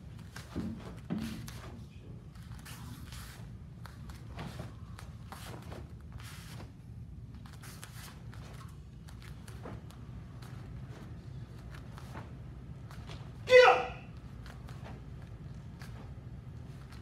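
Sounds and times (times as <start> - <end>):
bare feet on foam mats: 0.0 - 13.6, 14.2 - 17.0
low room hum: 0.0 - 17.0.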